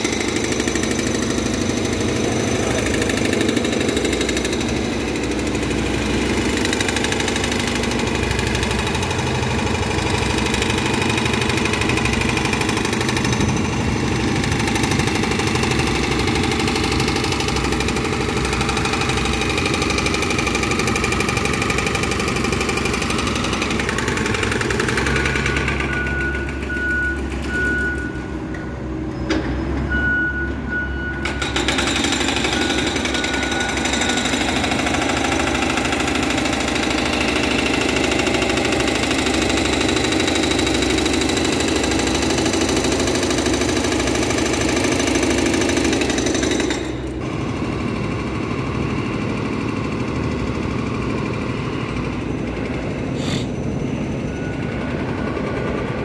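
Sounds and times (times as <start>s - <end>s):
bus engine pulling away: 0.0s - 56.0s.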